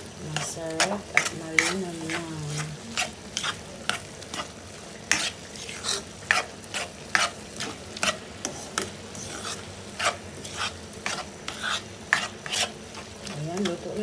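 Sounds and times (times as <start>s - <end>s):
frying sizzle: 0.0s - 14.0s
spatula scraping a wok: 0.1s - 14.0s.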